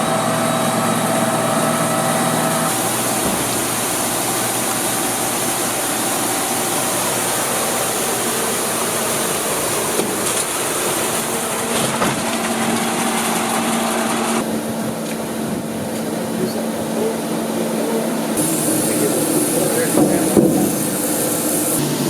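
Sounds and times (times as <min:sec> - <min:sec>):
machine drone with hiss: 0:00.0 - 0:22.0.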